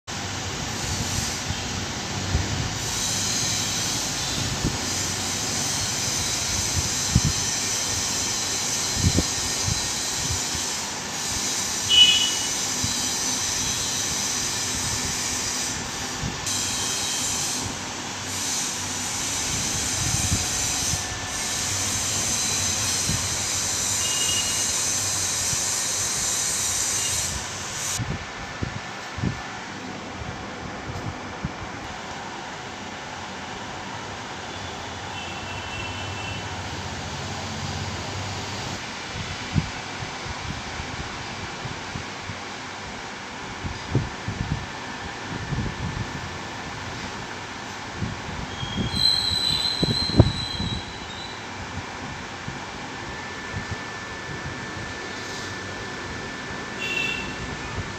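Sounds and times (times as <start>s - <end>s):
fan noise hiss: 0.1s - 57.9s.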